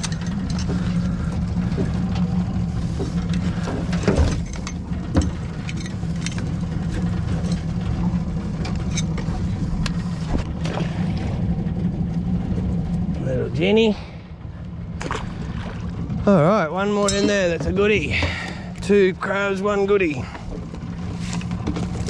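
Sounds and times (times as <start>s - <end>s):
outboard motor idling: 0.0s - 22.0s.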